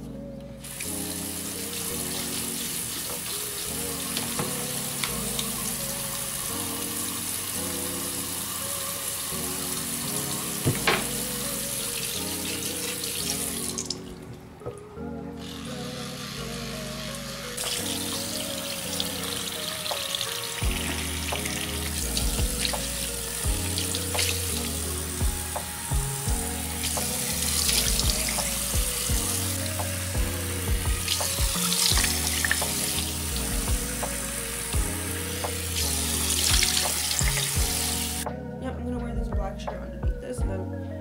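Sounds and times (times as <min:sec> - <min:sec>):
background music with steady beat: 0:00.0 - 0:41.0
faucet water running into sink: 0:00.7 - 0:14.0, 0:17.6 - 0:38.2.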